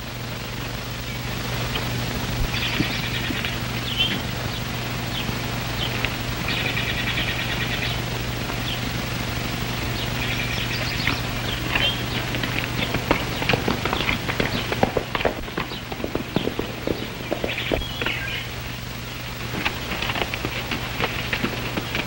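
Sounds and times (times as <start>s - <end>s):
birds chirping: 0.0s - 22.0s
film soundtrack hum and hiss: 0.0s - 22.0s.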